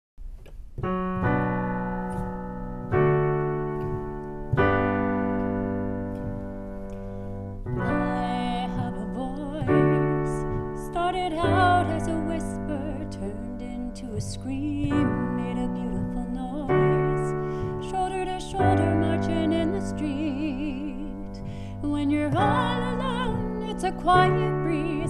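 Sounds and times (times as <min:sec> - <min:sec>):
piano chords: 0:00.2 - 0:25.0.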